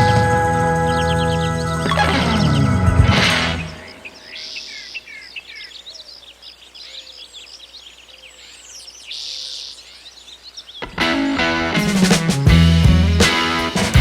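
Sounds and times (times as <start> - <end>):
birds chirping and whistling: 0.0 - 11.4
harsh buzzy bird call: 0.0 - 12.6.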